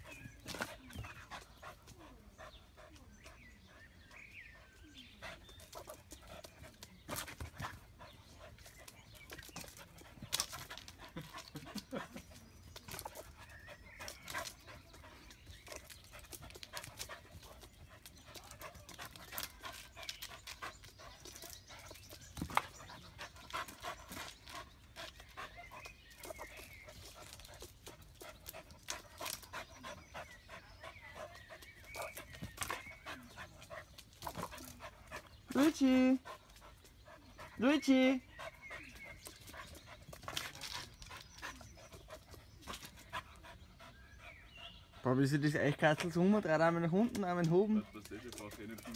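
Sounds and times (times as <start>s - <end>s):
dog panting: 0.0s - 48.9s.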